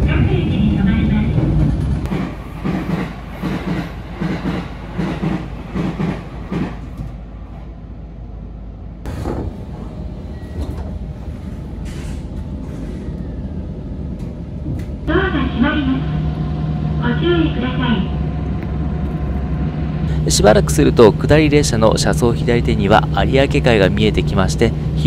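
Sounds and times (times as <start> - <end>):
train rumble from inside: 0.0 - 25.0.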